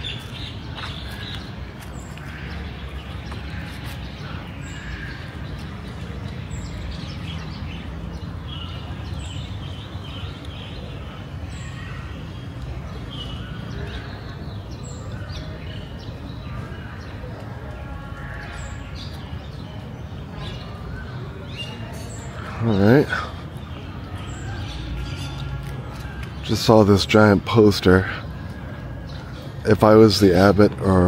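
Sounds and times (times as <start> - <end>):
faint voices: 0.0 - 31.0
small birds chirping: 0.0 - 31.0.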